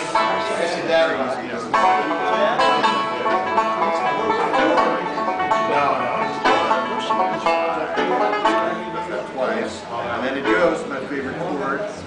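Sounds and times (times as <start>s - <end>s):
acoustic guitar: 0.0s - 12.0s
banjo picking: 0.0s - 12.0s.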